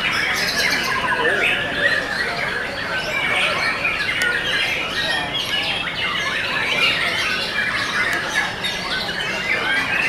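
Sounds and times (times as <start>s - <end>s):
birds singing whistles and trills: 0.0s - 10.0s.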